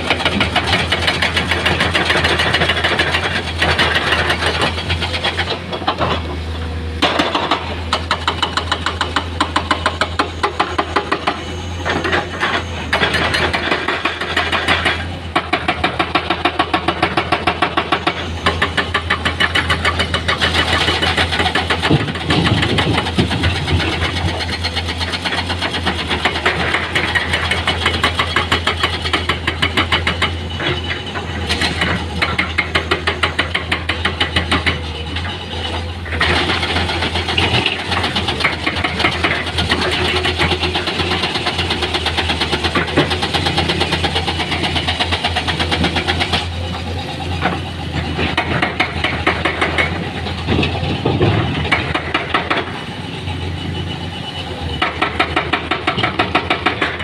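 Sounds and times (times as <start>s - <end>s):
construction machinery engine clattering: 0.0s - 57.0s.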